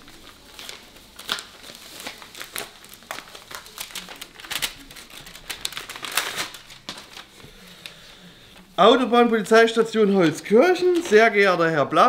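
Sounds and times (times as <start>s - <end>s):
paper crinkling and tearing: 0.0s - 11.6s.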